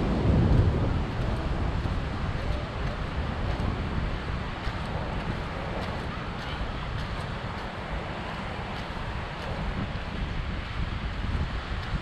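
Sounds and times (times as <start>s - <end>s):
surf rushing: 0.0s - 12.0s
wind buffeting microphone: 0.0s - 12.0s.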